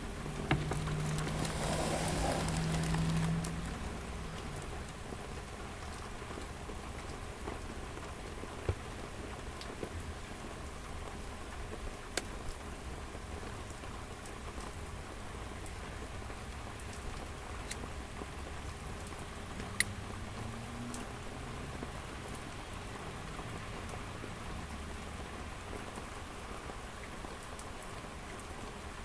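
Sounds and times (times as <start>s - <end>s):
raindrops ticking near microphone: 0.0s - 29.0s
steady rain falling: 0.0s - 29.0s.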